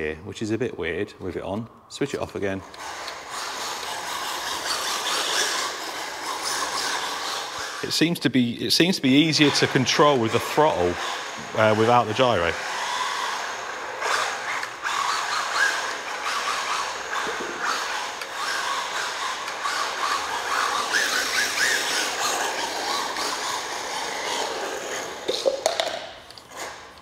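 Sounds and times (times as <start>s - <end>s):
small electric motor whining: 2.3s - 8.2s, 8.8s - 27.0s
tyres scrubbing on concrete: 2.9s - 8.0s, 9.1s - 25.7s.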